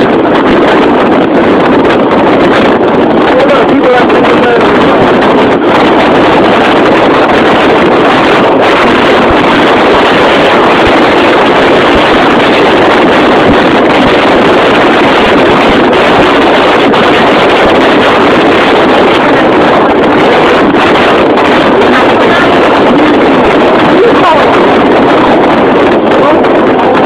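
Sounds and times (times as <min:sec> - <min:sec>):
boat motor: 0:00.0 - 0:27.0
water noise: 0:00.0 - 0:27.0
wind on microphone: 0:00.0 - 0:27.0.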